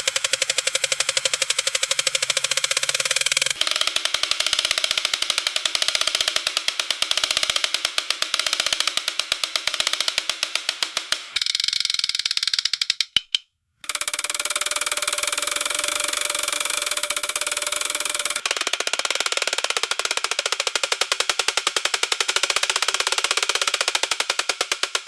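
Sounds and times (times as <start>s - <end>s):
spinning gear wheel clicking: 0.0s - 25.0s.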